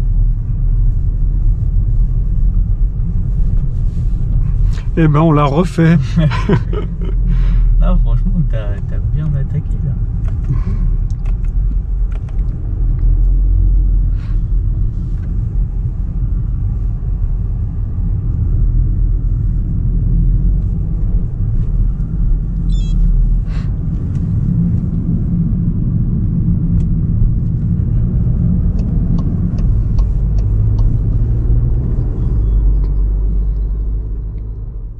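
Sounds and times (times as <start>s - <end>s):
car engine rumble: 0.0s - 34.9s.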